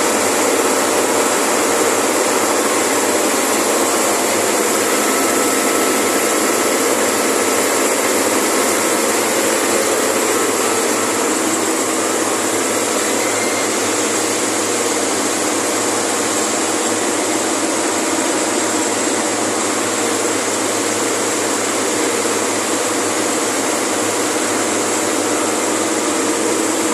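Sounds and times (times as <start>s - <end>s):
refrigeration compressor running: 0.0s - 26.9s.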